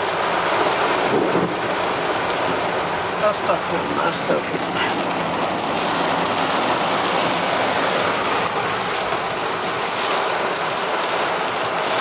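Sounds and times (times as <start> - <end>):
heavy rain on a car: 0.0 - 12.0.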